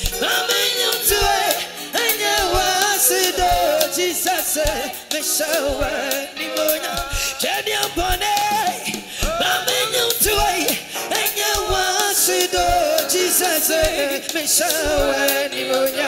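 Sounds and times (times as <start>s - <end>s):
band playing: 0.0s - 16.0s
man singing gospel: 0.0s - 16.0s
steady drum beat: 0.0s - 16.0s.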